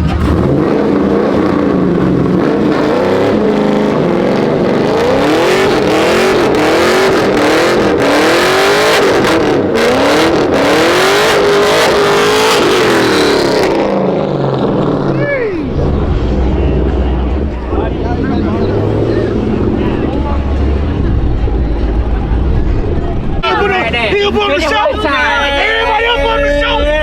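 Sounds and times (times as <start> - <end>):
car engine revving hard: 0.0 - 25.7.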